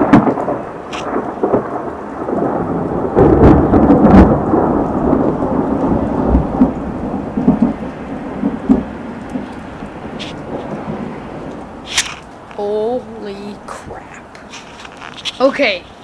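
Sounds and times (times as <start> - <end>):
rain falling: 0.0 - 16.0
thunder rumbling: 0.0 - 16.0.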